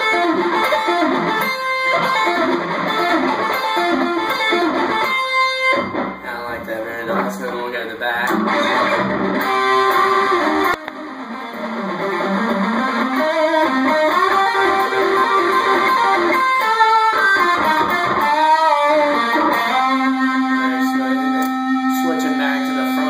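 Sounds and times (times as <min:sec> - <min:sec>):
electric guitar lead: 0:00.0 - 0:23.0.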